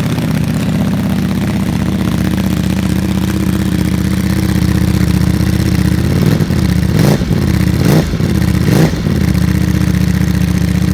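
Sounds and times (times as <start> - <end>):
motorcycle engine idling and revving: 0.0 - 10.9.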